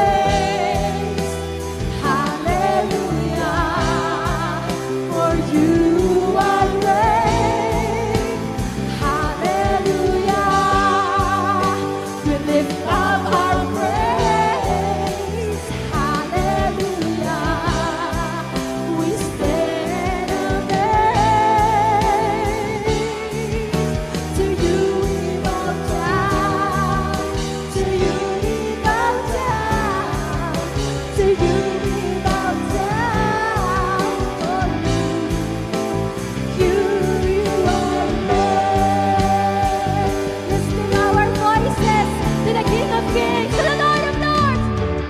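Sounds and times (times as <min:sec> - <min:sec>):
backing singers: 0:00.0 - 0:45.0
band playing drums guitars keyboard: 0:00.0 - 0:45.0
woman singing lead: 0:00.0 - 0:45.0.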